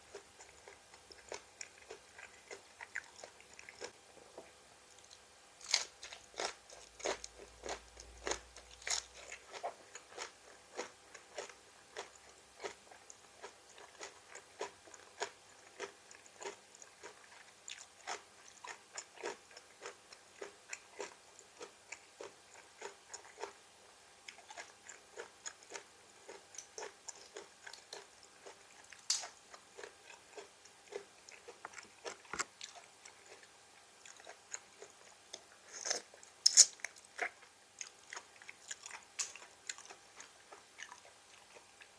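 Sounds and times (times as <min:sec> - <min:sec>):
crunchy vegetables being chewed: 0:00.0 - 0:41.9.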